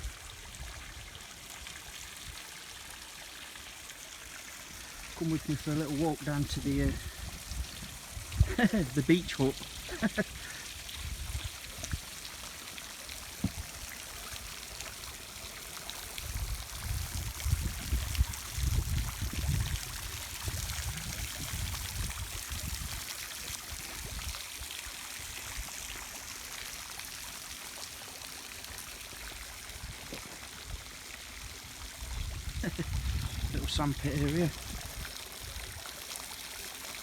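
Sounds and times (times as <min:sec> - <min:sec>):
trickling water hiss: 0:00.0 - 0:37.0.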